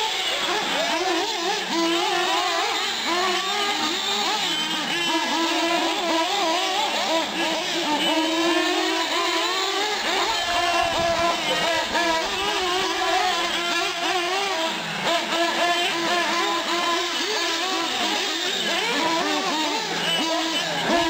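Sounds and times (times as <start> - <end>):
rc car engines revving: 0.0 - 21.0.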